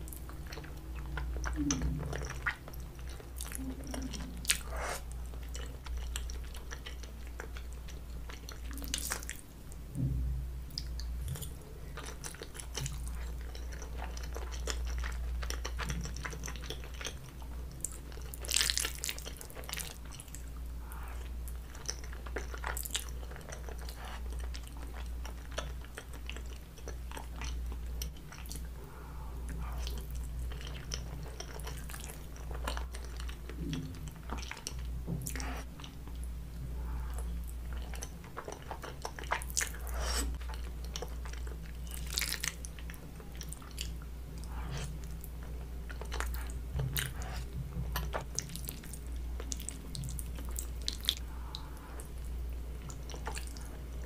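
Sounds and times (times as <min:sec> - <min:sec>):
close chewing: 0:00.0 - 0:09.4, 0:10.8 - 0:28.8, 0:29.4 - 0:54.0
low steady hum: 0:00.0 - 0:54.0.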